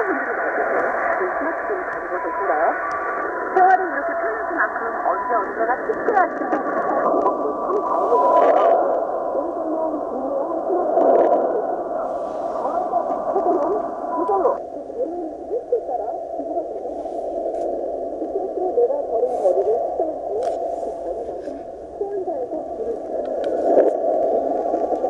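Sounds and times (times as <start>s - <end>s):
radio jamming noise: 0.0s - 25.0s
shortwave radio speech: 0.0s - 25.0s.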